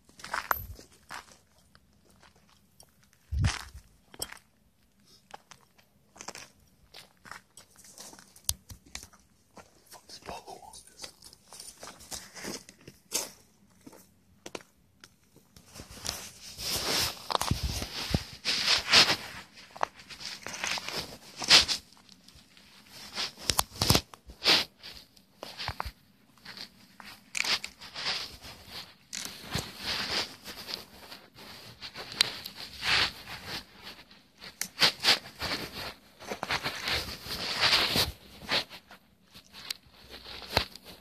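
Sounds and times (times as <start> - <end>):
close-up crunching and rustling: 0.1 - 41.0.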